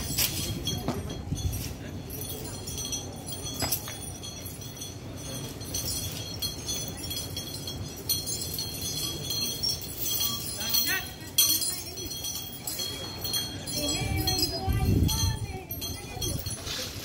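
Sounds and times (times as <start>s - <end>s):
iron chain clinking on concrete: 0.0s - 17.0s.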